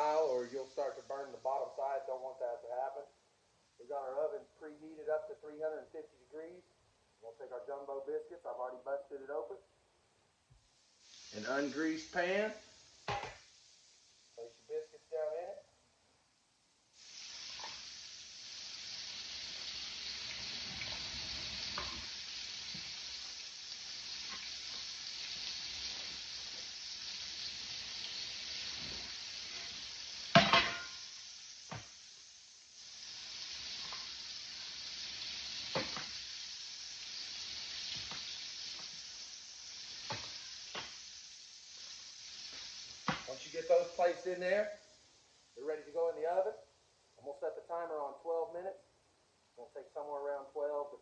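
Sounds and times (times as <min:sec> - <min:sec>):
chicken sizzling in hot grease: 0:00.0 - 0:07.3, 0:10.6 - 0:15.7, 0:16.6 - 0:47.3.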